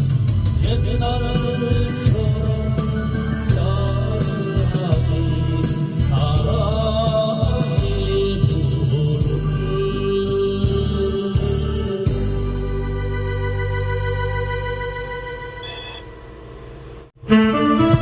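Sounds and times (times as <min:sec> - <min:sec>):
instrumental backing track: 0:00.0 - 0:16.2, 0:17.1 - 0:18.0.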